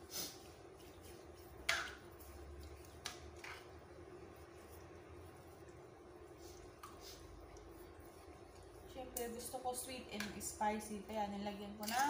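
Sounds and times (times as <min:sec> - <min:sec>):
mixing chicken by hand and spoon: 0:00.0 - 0:12.0.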